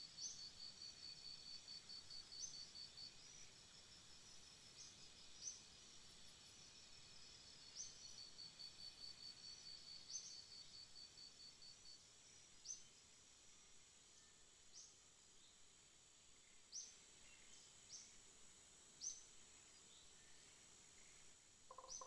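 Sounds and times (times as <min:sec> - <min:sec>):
steady thin hiss: 0:02.0 - 0:21.7.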